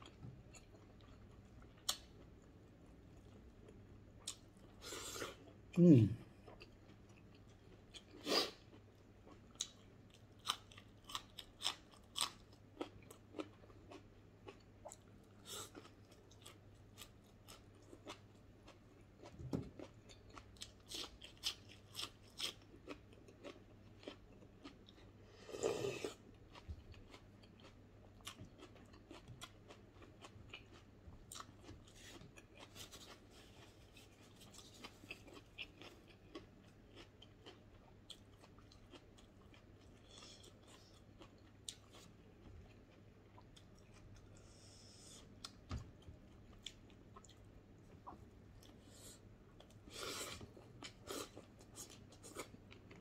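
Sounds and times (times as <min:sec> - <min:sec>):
person chewing and crunching: 0:06.4 - 0:48.8, 0:49.5 - 0:53.0.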